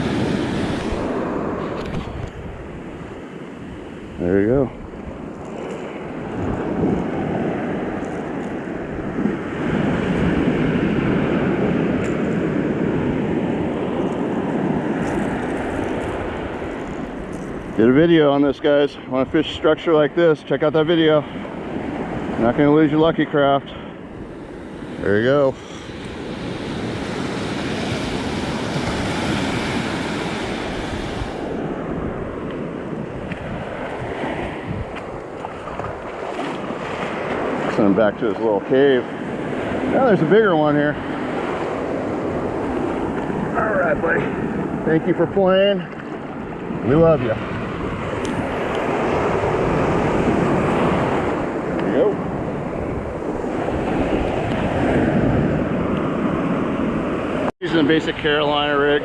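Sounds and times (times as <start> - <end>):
wind buffeting microphone: 0.0 - 57.5
surf washing among rocks: 0.0 - 59.0.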